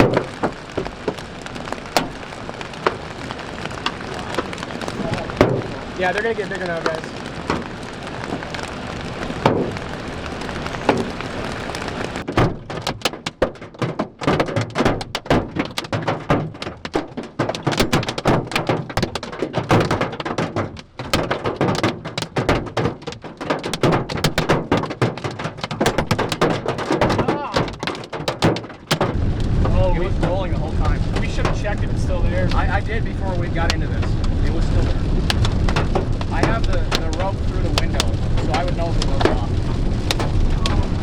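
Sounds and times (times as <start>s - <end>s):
hailstones pelting vehicle roof: 0.0s - 41.0s.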